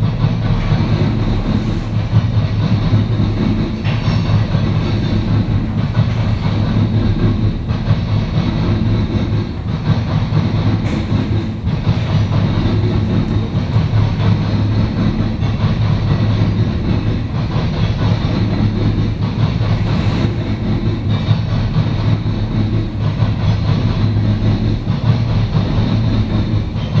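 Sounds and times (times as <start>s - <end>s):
train cars rumbling on rails: 0.0s - 27.0s.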